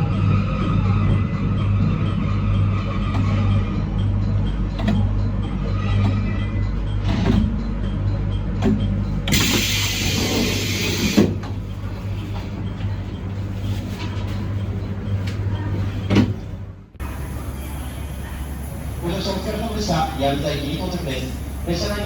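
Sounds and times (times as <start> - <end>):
train low hum: 0.0 - 22.0.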